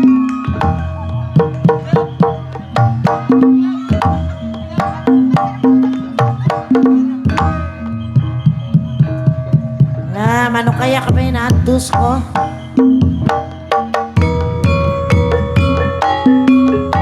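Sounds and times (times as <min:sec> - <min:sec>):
gamelan music: 0:00.0 - 0:17.0
hand drum strokes: 0:00.0 - 0:17.0
ringing struck pitched tones: 0:00.0 - 0:17.0.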